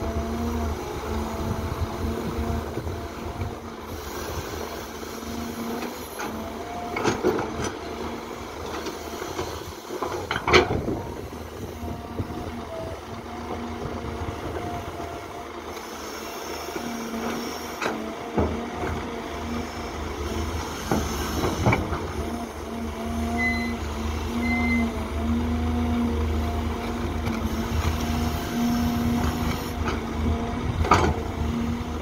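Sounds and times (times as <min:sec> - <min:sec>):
excavator engine and hydraulics: 0:00.0 - 0:32.0.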